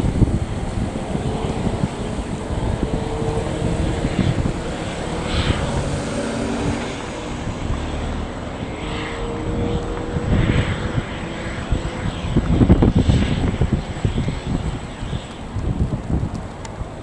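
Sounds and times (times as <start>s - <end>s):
aircraft low rumble: 0.0s - 17.0s
faint jet engine whine: 0.0s - 17.0s
wind buffeting microphone: 0.0s - 17.0s.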